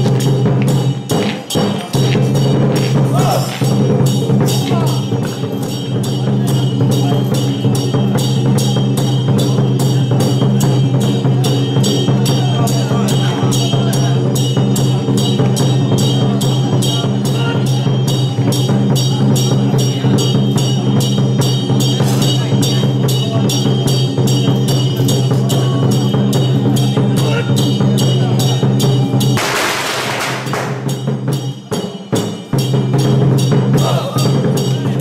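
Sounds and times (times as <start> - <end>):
drum gongs and cymbals beating: 0.0 - 35.0.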